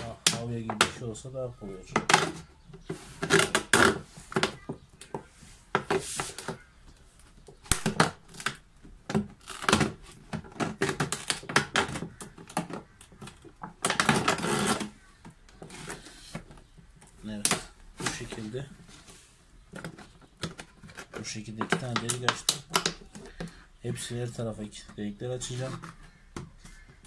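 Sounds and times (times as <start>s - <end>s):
plastic bottle crackling and popping: 0.0s - 1.2s, 1.8s - 27.0s.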